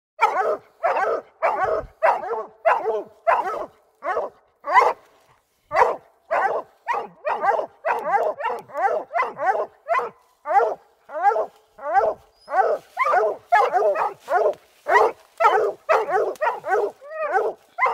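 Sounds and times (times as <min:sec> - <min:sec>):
hound barking: 0:00.2 - 0:17.9.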